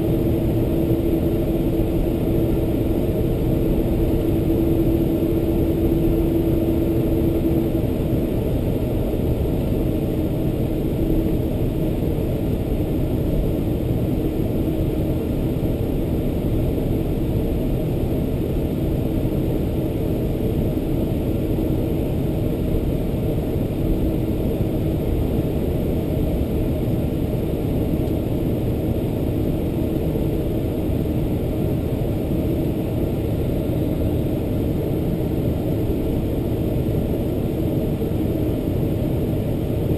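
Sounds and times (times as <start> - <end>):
aircraft cabin low rumble: 0.0 - 39.9
faint hum: 0.0 - 39.9.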